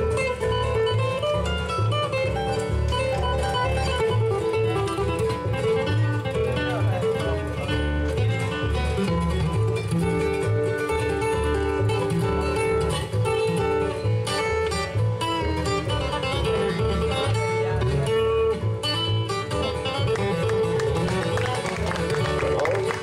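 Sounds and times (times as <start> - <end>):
acoustic guitars picking: 0.0 - 23.0
upright bass line: 0.0 - 23.0.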